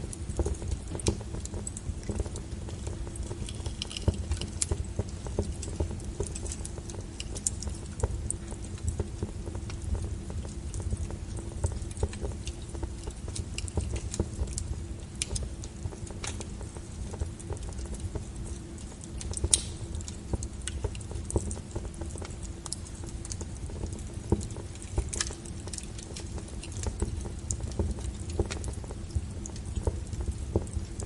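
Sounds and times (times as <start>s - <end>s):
low rumble of fire: 0.0s - 31.0s
wood fire crackling and popping: 0.0s - 31.0s.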